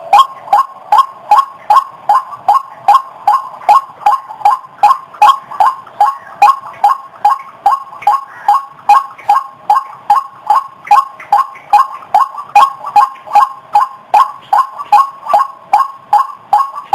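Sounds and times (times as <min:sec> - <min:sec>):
waterhen calling sharp notes: 0:00.0 - 0:16.9.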